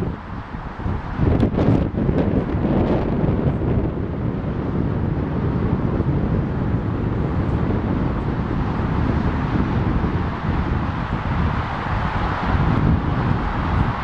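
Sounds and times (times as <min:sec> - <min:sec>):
distant jet rumble: 0:00.0 - 0:14.0
wind buffeting microphone: 0:00.0 - 0:14.0.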